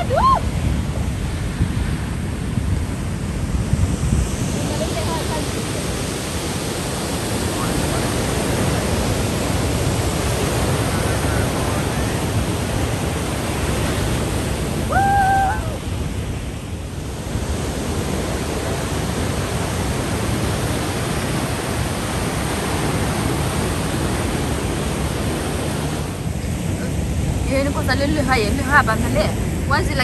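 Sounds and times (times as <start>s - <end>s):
ocean surf on rocks: 0.0s - 30.0s.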